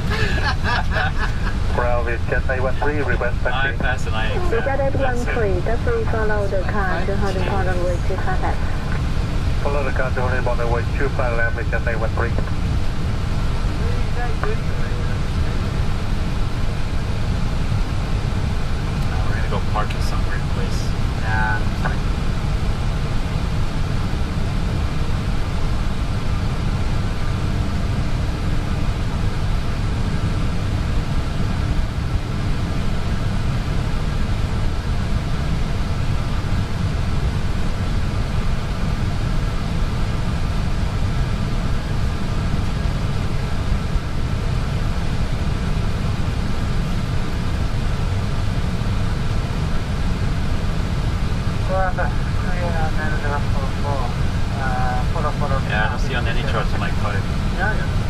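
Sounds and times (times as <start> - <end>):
aircraft cockpit rumble and hiss: 0.0 - 58.0
faint steady hum: 0.0 - 58.0.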